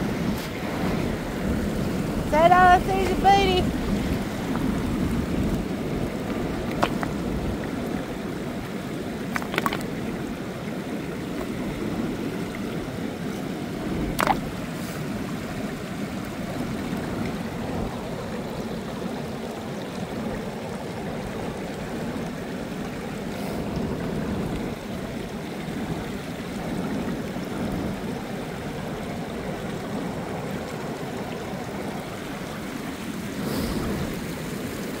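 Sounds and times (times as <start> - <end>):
ocean surf washing on beach: 0.0 - 35.0
water running and gurgling: 0.0 - 35.0.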